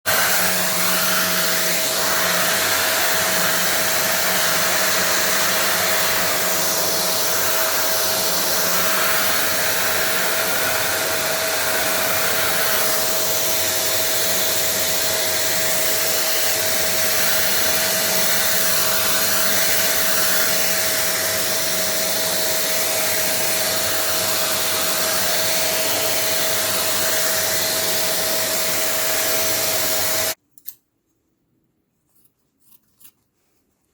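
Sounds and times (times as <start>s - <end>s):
vacuum cleaner running: 0.0s - 30.4s.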